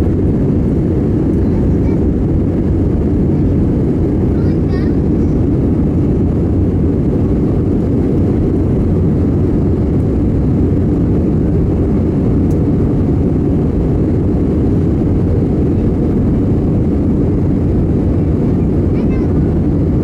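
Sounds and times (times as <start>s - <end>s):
jet engine cabin drone: 0.0s - 20.0s.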